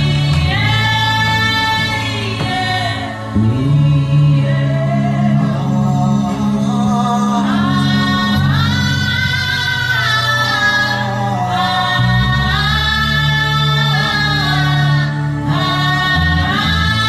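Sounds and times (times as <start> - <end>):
wordless humming and singing: 0.0 - 17.0.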